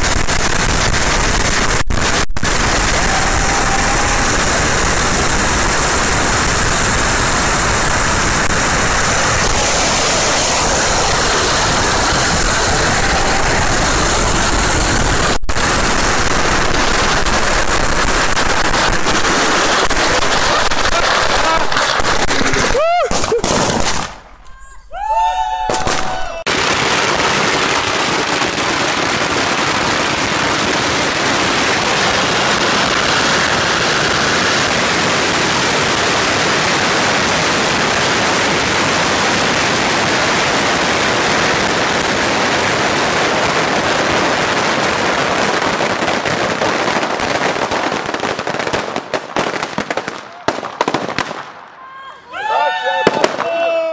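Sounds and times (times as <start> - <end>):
firecrackers crackling: 0.0 - 53.9.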